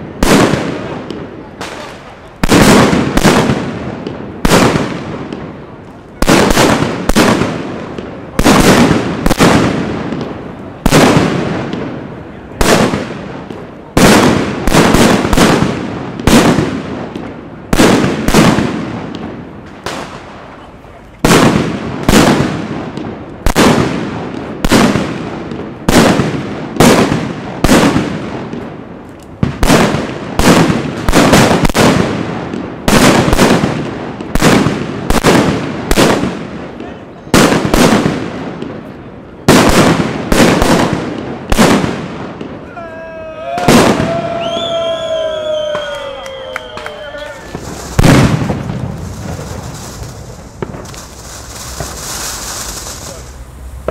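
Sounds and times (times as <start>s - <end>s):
firecrackers exploding: 0.0s - 42.8s, 43.4s - 53.9s.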